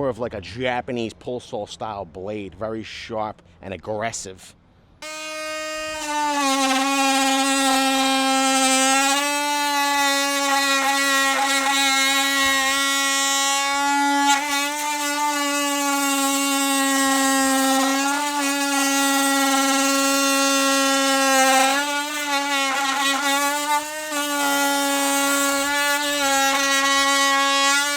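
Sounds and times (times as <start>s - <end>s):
oscillating multi-tool buzzing: 5.0s - 27.9s.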